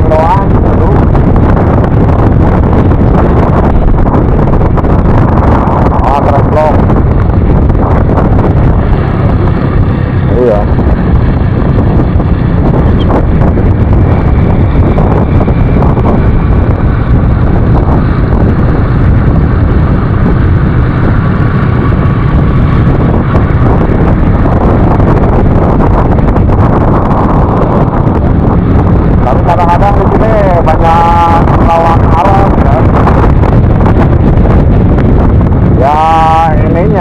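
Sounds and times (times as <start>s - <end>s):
motorcycle engine and road noise: 0.0s - 37.0s
wind buffeting microphone: 0.0s - 37.0s.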